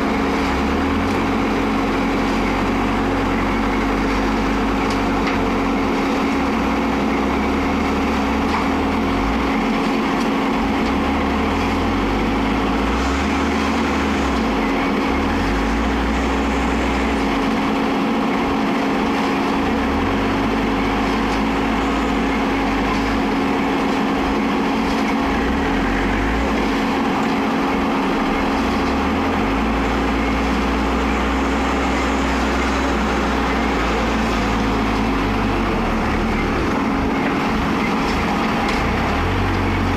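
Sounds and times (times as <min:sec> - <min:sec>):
constant hum: 0:00.0 - 0:39.9
diesel engine running: 0:00.0 - 0:39.9.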